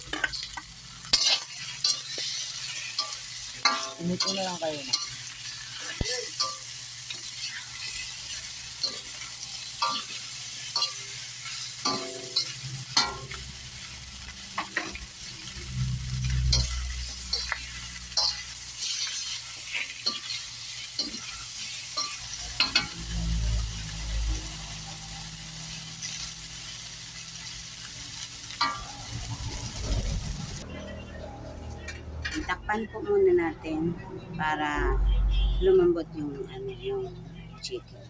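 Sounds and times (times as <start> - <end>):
food sizzling in a pan: 0.0 - 30.7.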